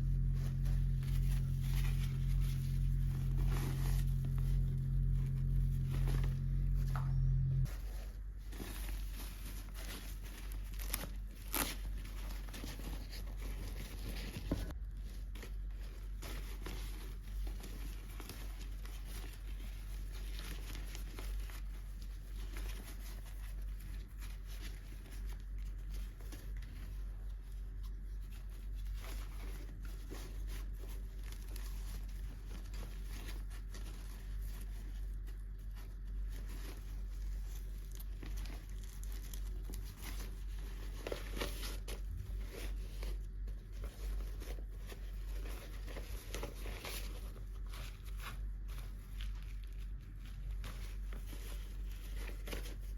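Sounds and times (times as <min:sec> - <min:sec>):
steady low hum: 0:00.0 - 0:52.9
plastic packaging crinkling and tearing: 0:08.2 - 0:27.0, 0:28.9 - 0:52.9.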